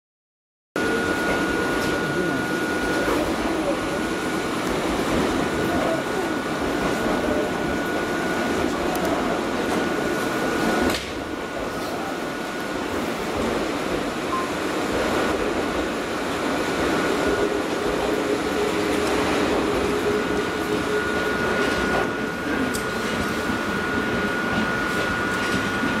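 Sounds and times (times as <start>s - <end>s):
train motor hum: 0.8s - 26.0s
train wheels rumbling: 0.8s - 26.0s.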